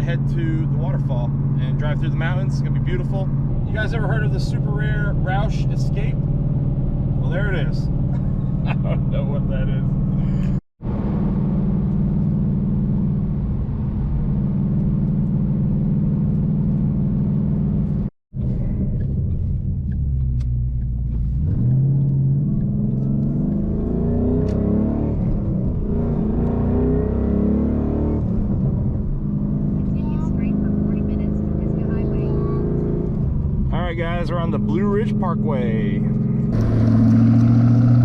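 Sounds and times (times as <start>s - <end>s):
car engine from inside: 0.0s - 38.0s.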